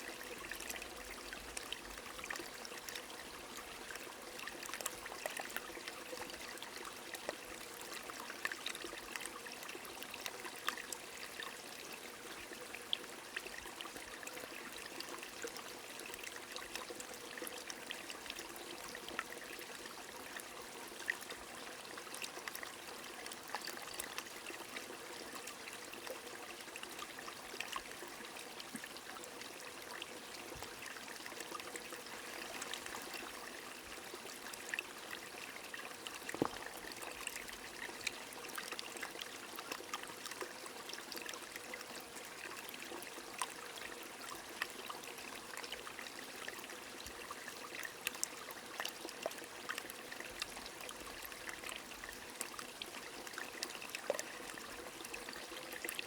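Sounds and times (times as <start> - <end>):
small stream flowing: 0.0 - 56.0.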